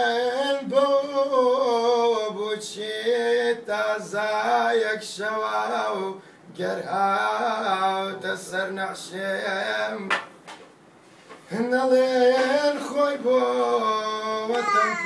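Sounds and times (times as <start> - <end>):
man singing: 0.0 - 10.1, 11.5 - 15.0.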